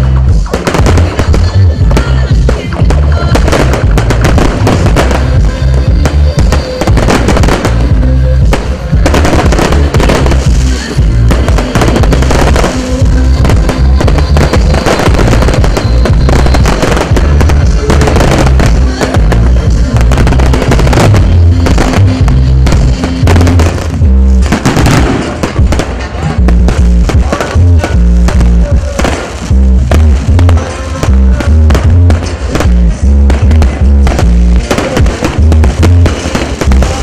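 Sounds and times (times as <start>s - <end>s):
fireworks bangs and crackling: 0.0s - 37.0s
loud music with heavy bass: 0.0s - 37.0s.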